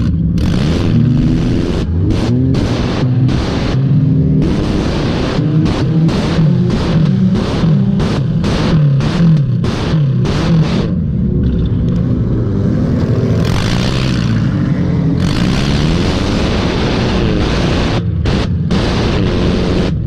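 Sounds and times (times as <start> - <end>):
loud rushing noise: 0.0 - 20.0
race car engine revving: 0.0 - 20.0.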